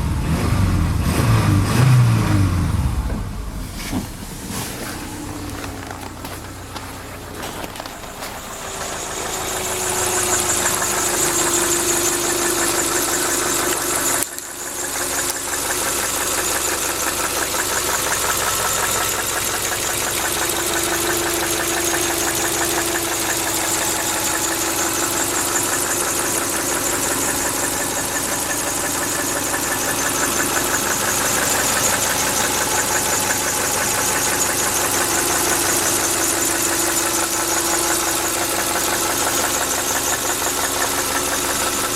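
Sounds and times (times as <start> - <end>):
car engine knocking: 1.0 - 41.9.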